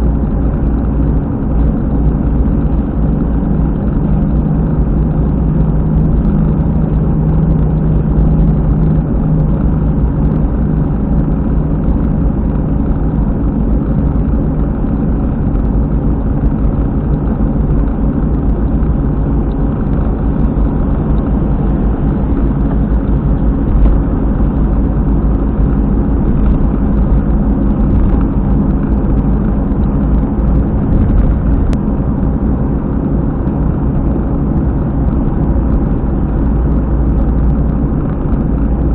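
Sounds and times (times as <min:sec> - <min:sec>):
car wheel bearing rumbling: 0:00.0 - 0:38.9.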